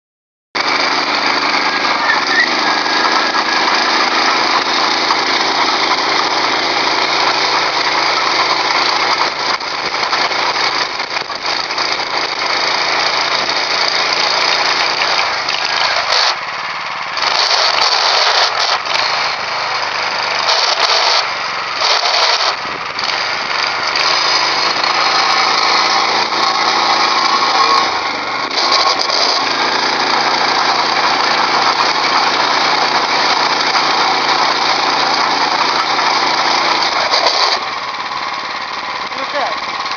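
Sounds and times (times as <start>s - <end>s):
small tractor engine running: 0.6s - 39.9s.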